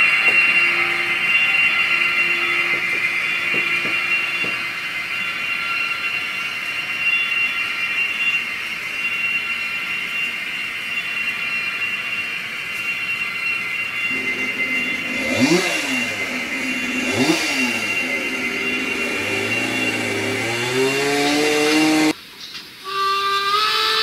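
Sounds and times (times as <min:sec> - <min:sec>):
model train motor whirring: 0:00.0 - 0:22.2
wheels running on track: 0:00.0 - 0:22.2.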